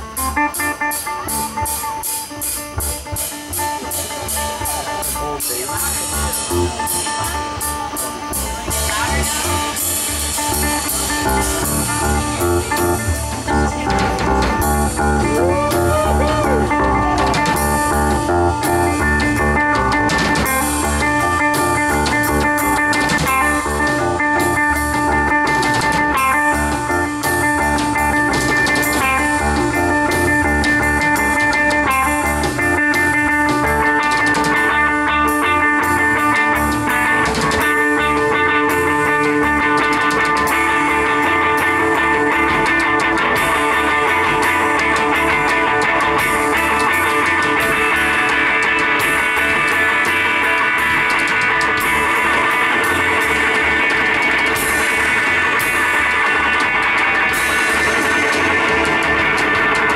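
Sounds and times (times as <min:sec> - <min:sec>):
drum kit with cymbals: 0:00.0 - 0:59.9
electric bass: 0:00.0 - 0:59.9
electric guitar long notes: 0:00.0 - 0:59.9.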